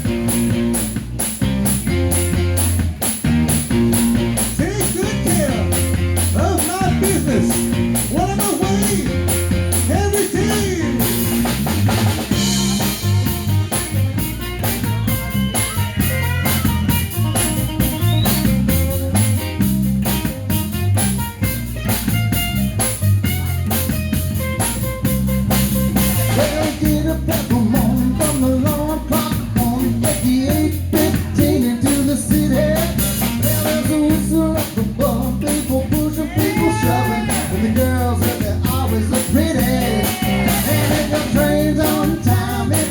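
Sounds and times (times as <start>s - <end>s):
bass line: 0.0s - 42.9s
drum kit beat: 0.0s - 42.9s
guitar: 0.0s - 42.9s.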